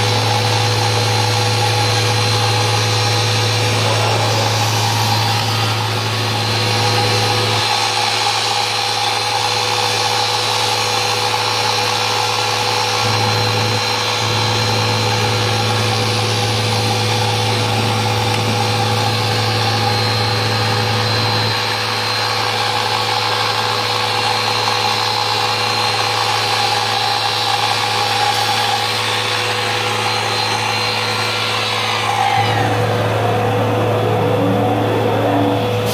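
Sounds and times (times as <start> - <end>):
cnc router whining and humming: 0.0 - 35.9.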